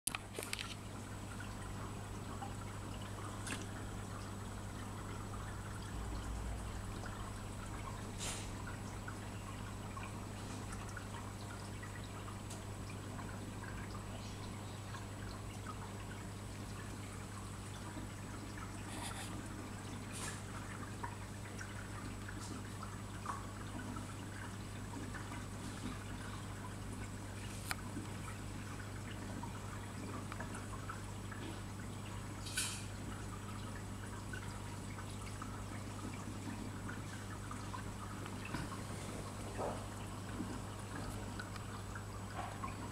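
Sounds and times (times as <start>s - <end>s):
aquarium water trickling: 0.1s - 42.9s
low electrical hum: 0.1s - 42.9s.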